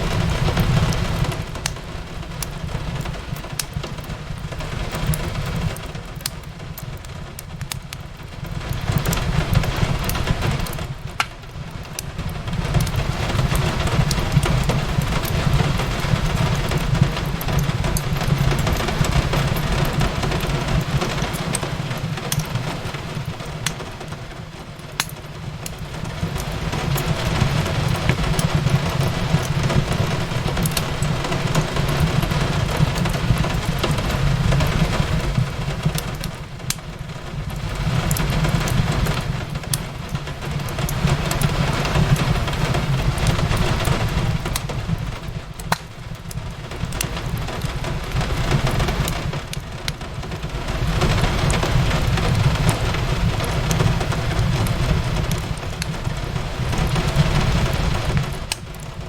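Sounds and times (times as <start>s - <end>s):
fireplace crackling: 0.0s - 59.0s
rain falling on a window: 0.0s - 59.0s.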